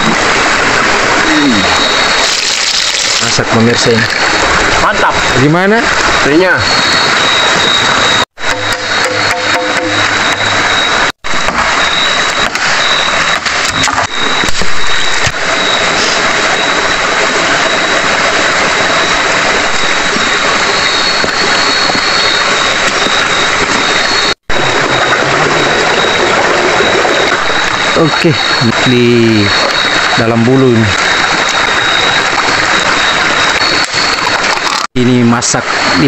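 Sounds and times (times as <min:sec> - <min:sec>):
high-pitched tone: 0:01.2 - 0:02.3, 0:03.2 - 0:36.0.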